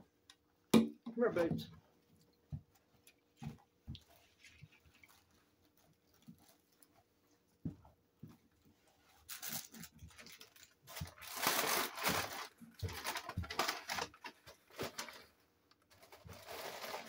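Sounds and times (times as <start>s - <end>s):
rustling and crinkling: 1.4s - 17.0s.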